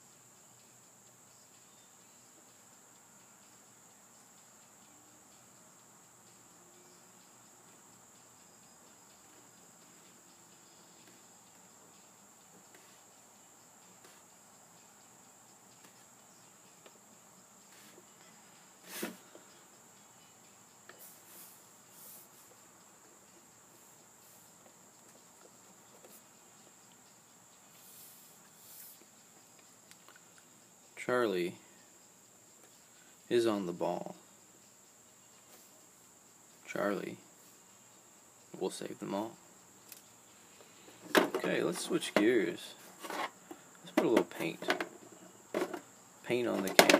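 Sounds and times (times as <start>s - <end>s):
faint high-pitched whine: 0.0s - 46.9s.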